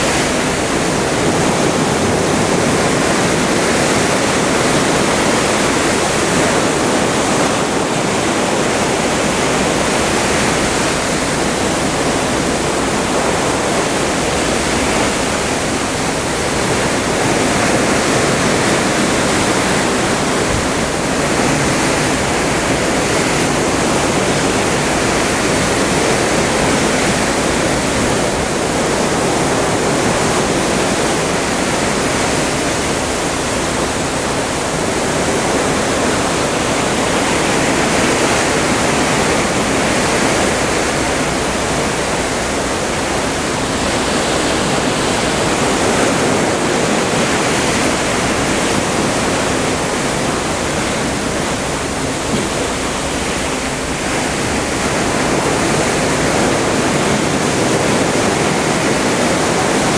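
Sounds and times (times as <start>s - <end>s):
water rushing past ship hull: 0.0s - 59.9s.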